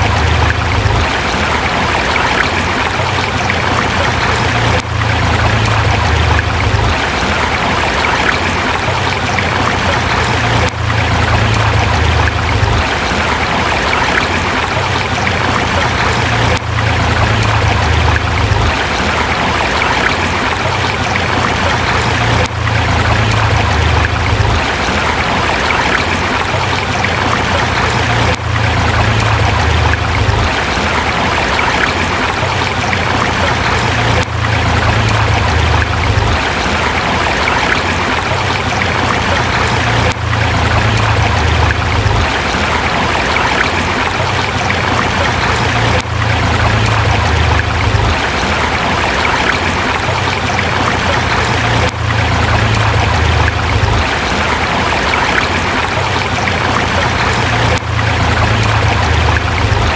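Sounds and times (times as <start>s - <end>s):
low water rumble: 0.0s - 59.9s
river rushing over rocks: 0.0s - 59.9s.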